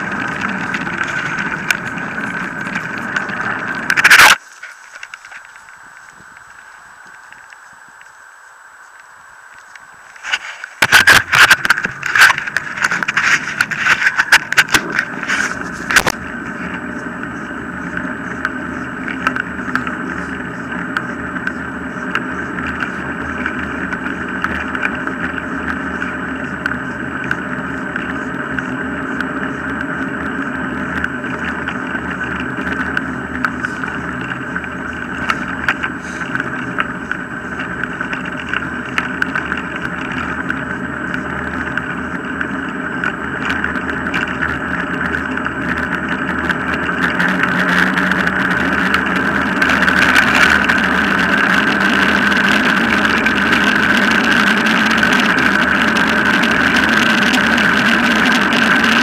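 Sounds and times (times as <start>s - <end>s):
wheels rolling on tarmac: 0.0s - 59.0s.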